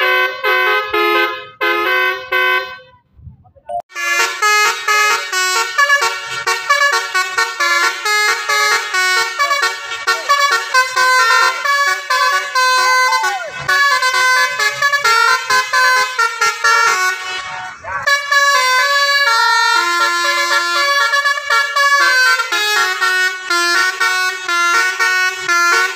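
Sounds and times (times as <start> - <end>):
multi-tone bus horn playing tune: 0.0 - 3.0, 3.8 - 25.9.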